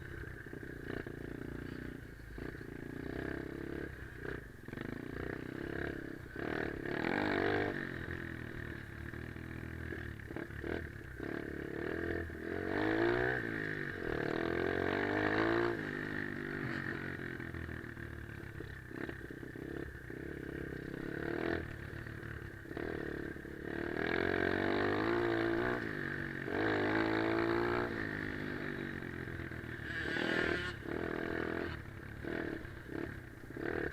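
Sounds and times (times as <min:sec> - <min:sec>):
pit bike engine revving: 0:00.8 - 0:08.9, 0:10.3 - 0:17.3, 0:18.9 - 0:33.9.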